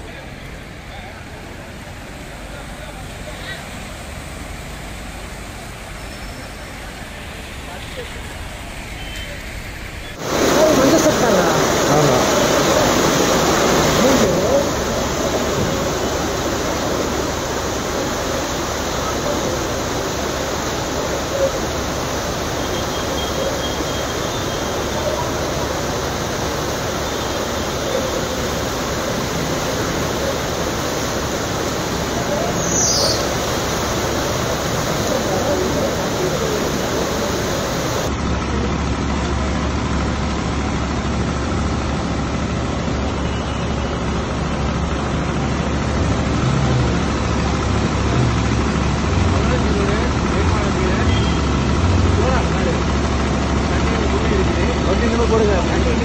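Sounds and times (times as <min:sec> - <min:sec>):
heavy rain: 0:00.0 - 0:56.0
rushing floodwater: 0:00.0 - 0:56.0
traffic engine rumble: 0:00.0 - 0:56.0.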